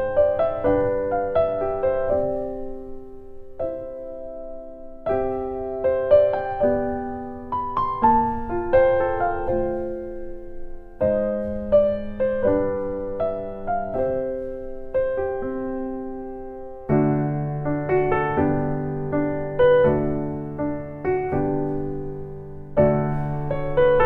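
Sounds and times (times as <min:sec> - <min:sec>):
gentle slow piano music: 0:00.0 - 0:24.0.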